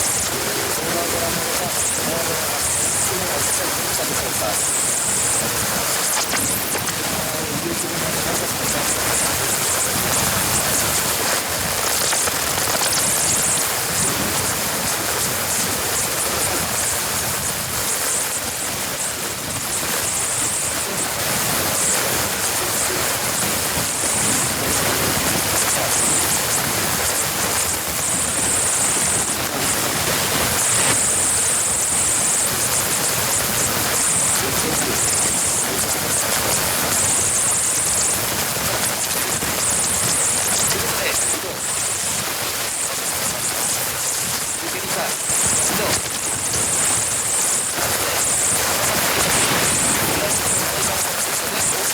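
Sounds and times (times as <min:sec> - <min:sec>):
high hiss: 0:00.0 - 0:51.9
steady rushing noise: 0:00.0 - 0:51.9.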